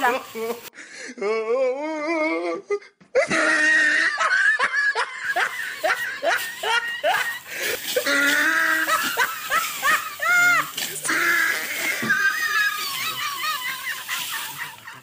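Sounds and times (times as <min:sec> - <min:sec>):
person laughing: 0:00.0 - 0:15.0.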